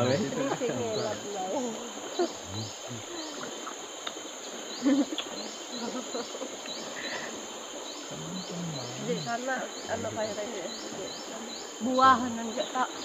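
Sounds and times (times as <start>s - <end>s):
insects droning: 0.0s - 13.0s
insects short rising chirps: 0.0s - 13.0s.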